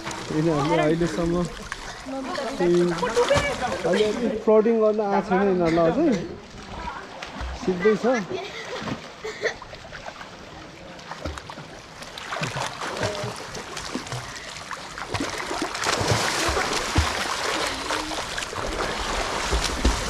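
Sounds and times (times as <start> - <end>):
pool water splashing: 0.0 - 20.0.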